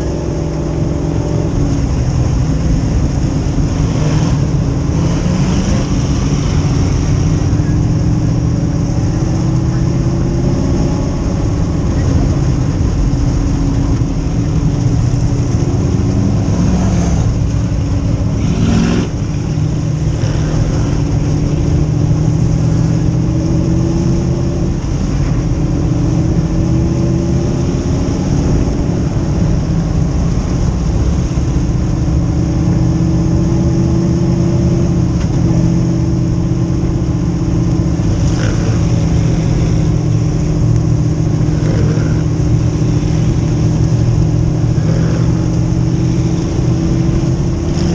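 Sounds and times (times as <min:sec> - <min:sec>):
race car engines running: 0:00.0 - 0:47.9.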